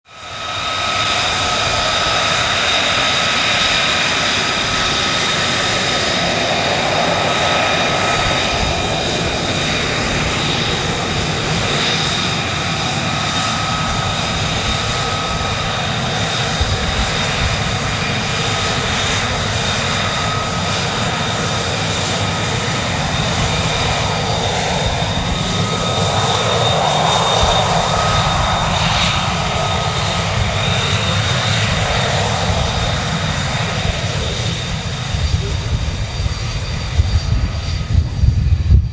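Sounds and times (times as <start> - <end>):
jet engine rush and whine: 0.0 - 38.9.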